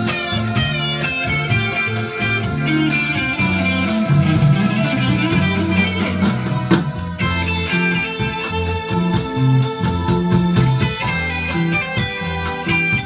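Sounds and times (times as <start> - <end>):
lead electric guitar: 0.0 - 13.0
low bass notes: 0.0 - 13.0.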